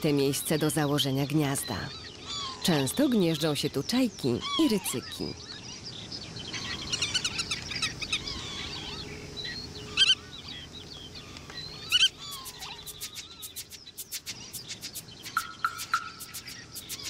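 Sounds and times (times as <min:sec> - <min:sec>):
birds chirping and whistling: 0:00.0 - 0:17.0
sharp bird calls: 0:00.0 - 0:17.0.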